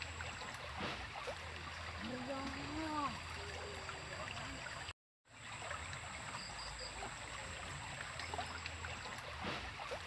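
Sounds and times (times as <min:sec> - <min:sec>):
small stream flowing: 0:00.0 - 0:10.0.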